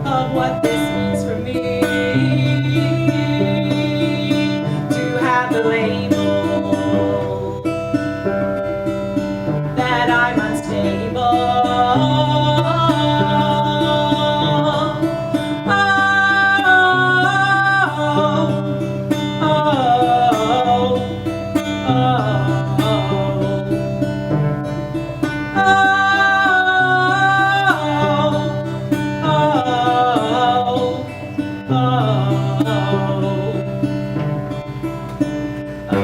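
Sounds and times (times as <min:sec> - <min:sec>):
held wavering melody notes: 0:00.0 - 0:36.0
plucked and strummed guitar: 0:00.0 - 0:36.0.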